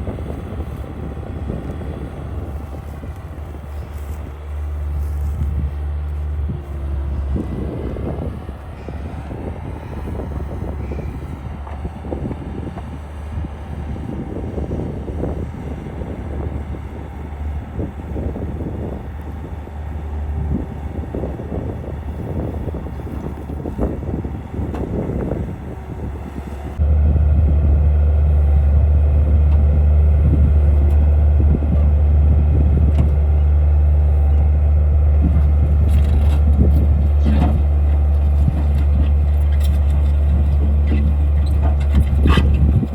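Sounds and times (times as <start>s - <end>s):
skid steer engine running: 0.0s - 42.9s.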